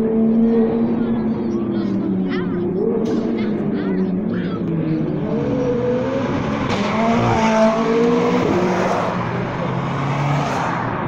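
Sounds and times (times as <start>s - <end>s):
sports car engines revving: 0.0s - 11.0s.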